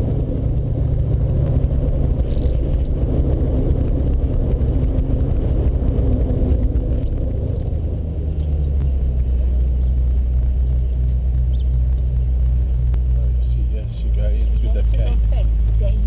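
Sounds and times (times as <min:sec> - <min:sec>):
vehicle driving on dirt road: 0:00.0 - 0:16.0.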